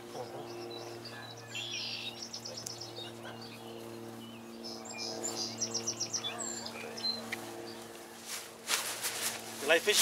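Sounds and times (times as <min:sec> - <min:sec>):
small birds chirping: 0:00.0 - 0:08.5
steady low hum: 0:00.0 - 0:10.0.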